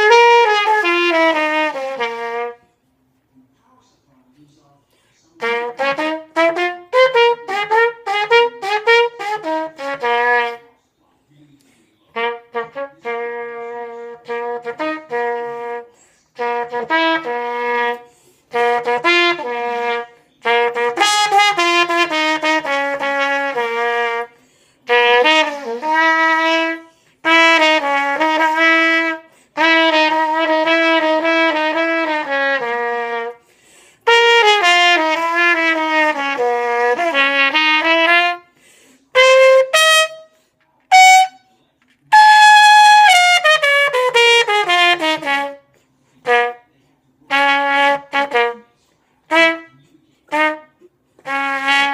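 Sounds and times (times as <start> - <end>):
solo trumpet playing jazz: 0.0 - 2.7, 5.4 - 10.8, 12.1 - 51.9.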